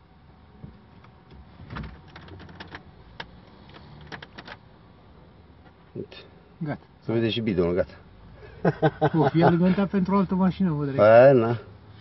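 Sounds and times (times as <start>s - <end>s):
quiet steady hum: 0.0s - 12.0s.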